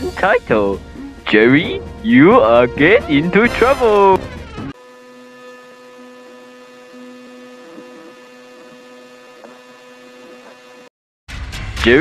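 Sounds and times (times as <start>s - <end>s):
electrical hum: 0.0s - 10.8s.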